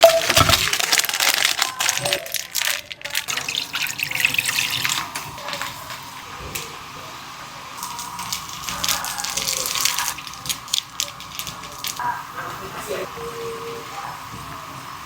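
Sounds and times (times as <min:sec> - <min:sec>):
tap water running into sink: 0:00.0 - 0:15.0.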